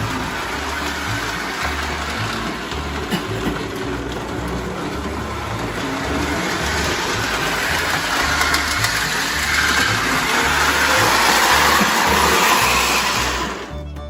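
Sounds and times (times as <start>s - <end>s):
model train rolling rumble: 0.0s - 13.8s.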